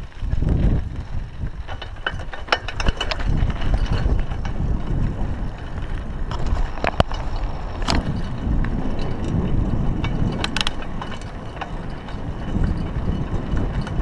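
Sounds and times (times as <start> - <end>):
bike rattling over bumps: 0.0 - 14.0
tyres rumbling on dirt: 0.0 - 14.0
wind on camera: 0.0 - 14.0.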